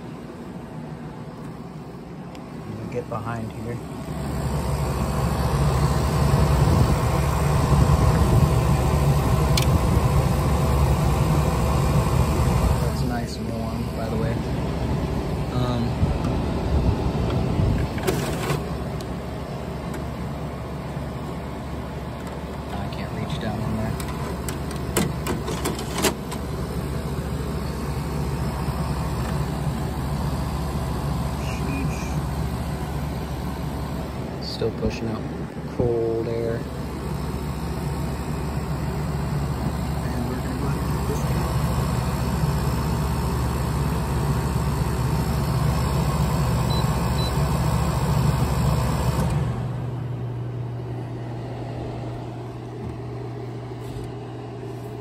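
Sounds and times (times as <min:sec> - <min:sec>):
air conditioner humming: 0:00.0 - 0:55.0.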